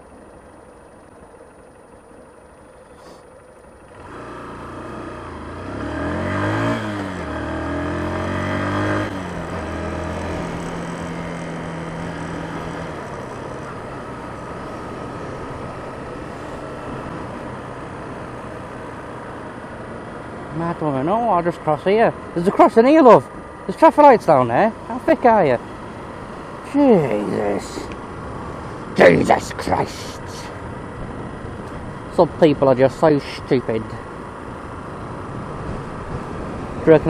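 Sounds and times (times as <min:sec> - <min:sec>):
motorcycle engine accelerating: 0:00.0 - 0:37.0
wind and road noise: 0:00.0 - 0:37.0.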